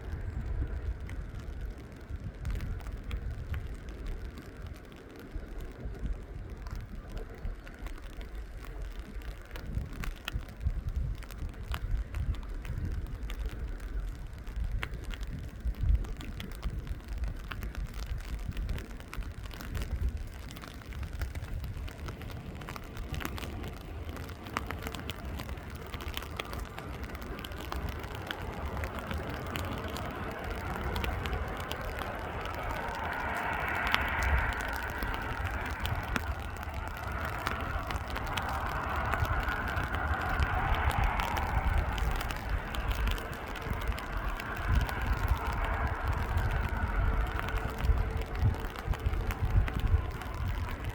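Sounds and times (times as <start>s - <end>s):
jet airliner engine noise: 0.0s - 50.9s
wind on microphone: 0.0s - 50.9s.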